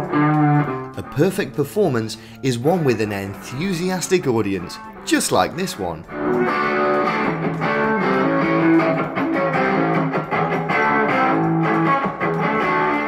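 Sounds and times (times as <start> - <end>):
electric guitar playing: 0.0 - 13.0.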